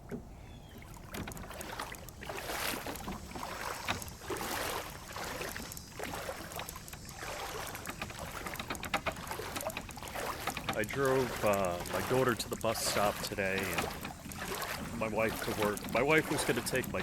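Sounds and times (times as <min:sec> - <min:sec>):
wading through water: 0:00.0 - 0:17.0.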